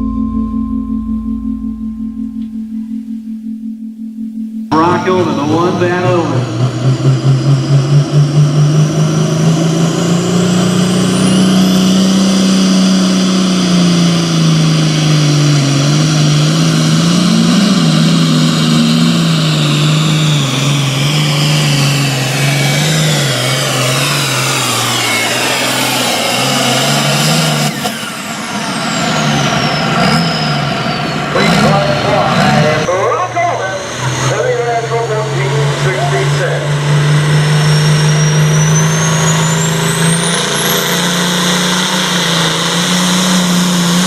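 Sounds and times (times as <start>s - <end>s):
diesel tractor engine at high revs: 4.7s - 44.0s.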